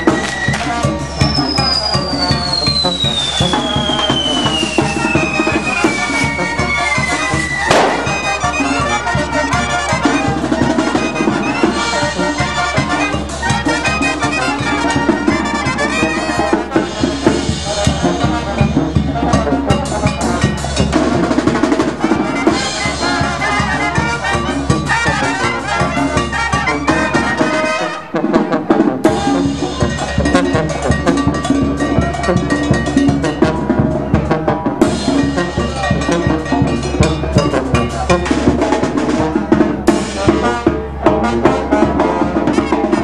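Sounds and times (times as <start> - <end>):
drums and percussion: 0.0 - 43.0
trumpets and trombones: 0.0 - 43.0.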